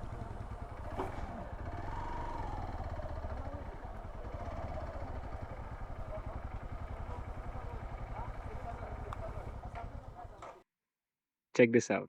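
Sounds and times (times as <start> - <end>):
motorcycle engine running slowly: 0.0 - 10.6.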